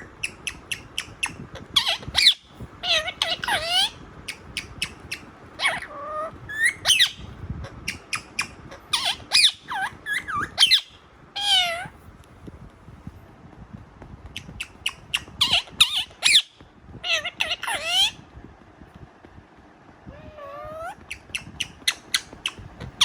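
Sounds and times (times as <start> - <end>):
parrot squawking and whistling: 0.0 - 11.9, 14.4 - 18.2, 20.1 - 23.0.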